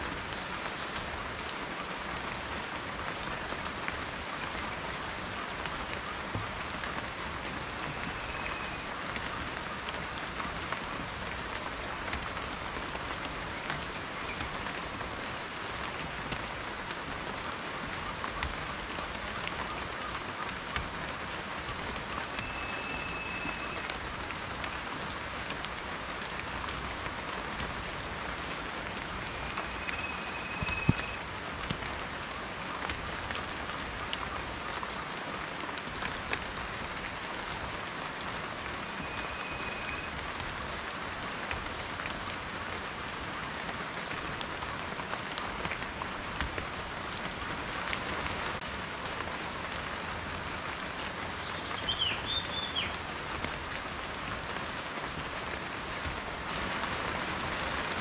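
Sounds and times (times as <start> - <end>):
rain falling: 0.0 - 58.0
raindrops tapping: 0.0 - 58.0.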